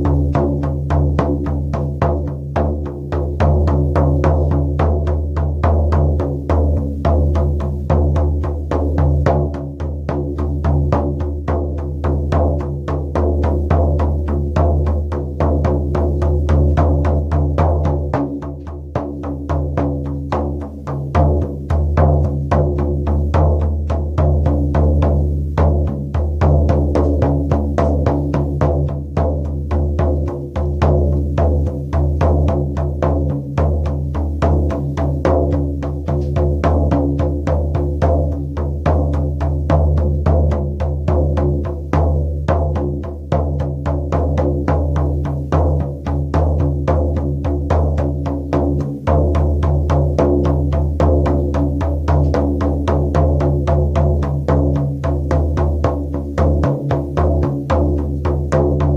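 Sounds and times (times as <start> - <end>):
frame drum beaten fast: 0.0 - 58.9.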